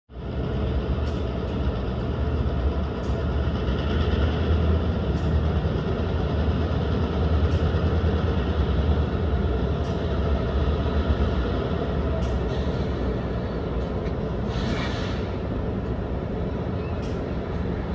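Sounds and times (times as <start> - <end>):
diesel locomotive droning: 0.1 - 17.9.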